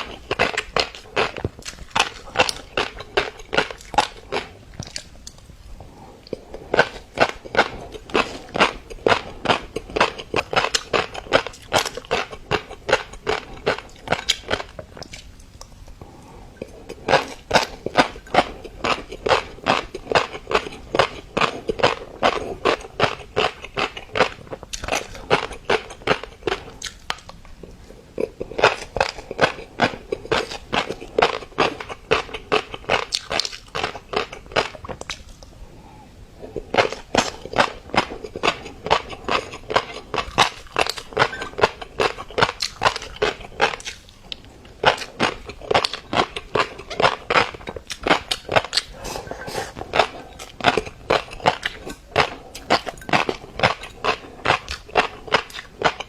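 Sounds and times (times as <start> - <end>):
fish roe crackling and popping: 0.0 - 35.6, 36.5 - 56.0.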